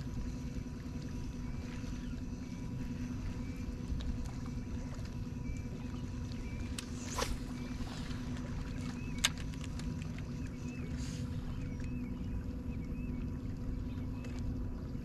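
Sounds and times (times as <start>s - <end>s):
low rumble of wind and water: 0.0s - 15.0s
steady low hum: 0.0s - 15.0s.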